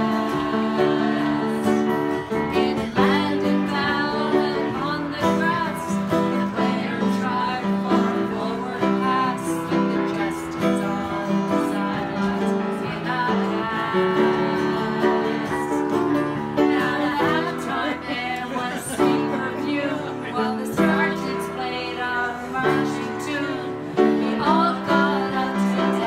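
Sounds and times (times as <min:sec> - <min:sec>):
group of people singing: 0:00.0 - 0:26.0
strummed acoustic guitar: 0:00.0 - 0:26.0
upright piano: 0:00.0 - 0:26.0.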